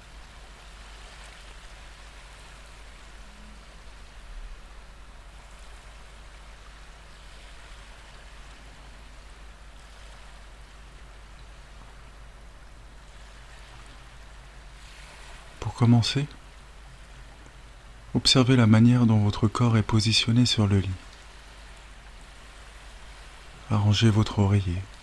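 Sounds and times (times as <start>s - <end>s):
ocean waves washing on shore: 0.0s - 25.0s.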